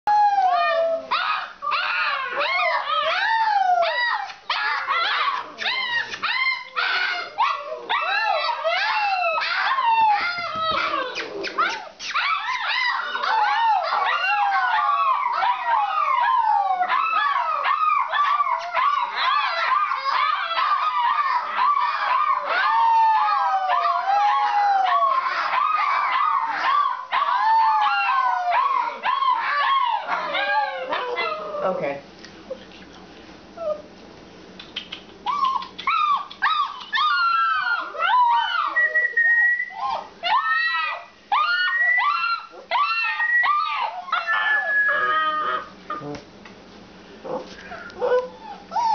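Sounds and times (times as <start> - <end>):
puppies howling and yipping: 0.1 - 31.8, 35.2 - 46.0, 47.3 - 48.9.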